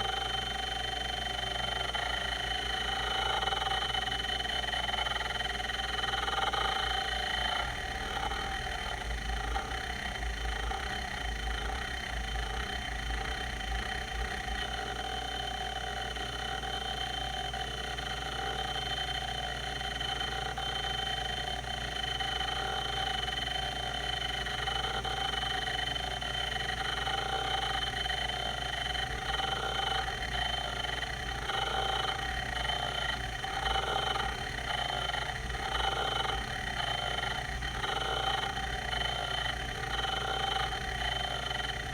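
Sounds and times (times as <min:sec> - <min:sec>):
hard drive head seeking pulses: 0:00.0 - 0:41.9
hard drive whine: 0:00.0 - 0:41.9.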